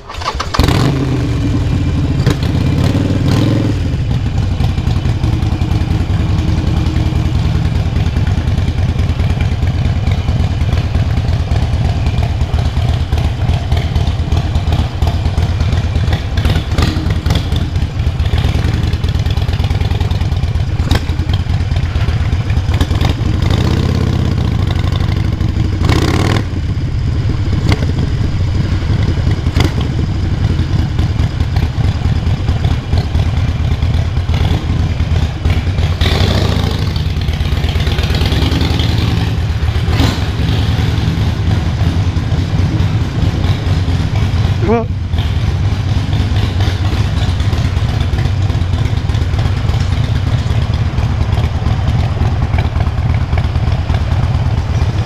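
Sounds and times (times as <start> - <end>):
motorcycle engine starting and revving: 0.0 - 55.0.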